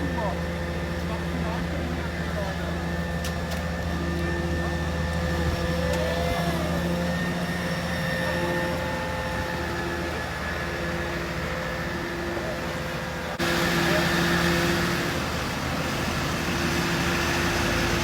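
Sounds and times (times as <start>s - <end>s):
motor humming steadily: 0.0s - 18.0s.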